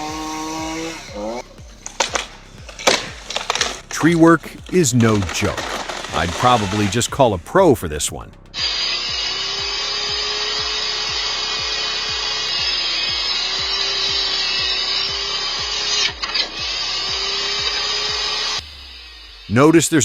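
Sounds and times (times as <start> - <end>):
music with thumping beat: 0.0 - 19.4
circular saw cutting wood: 0.0 - 20.0.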